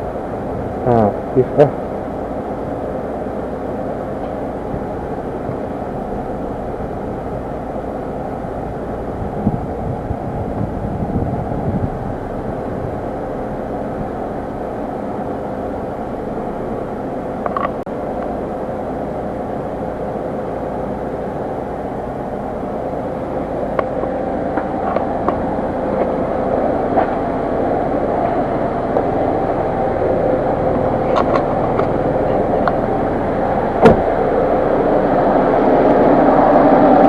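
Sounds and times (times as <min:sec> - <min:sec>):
air conditioning hum: 0:00.0 - 0:37.0
car engine drone: 0:00.0 - 0:37.0.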